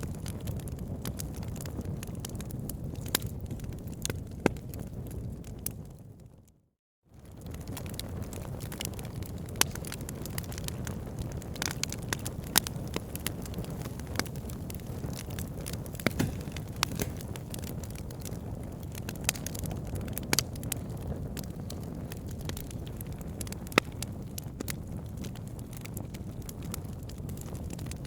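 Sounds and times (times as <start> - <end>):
wood fire crackling: 0.0 - 6.0, 7.2 - 28.0.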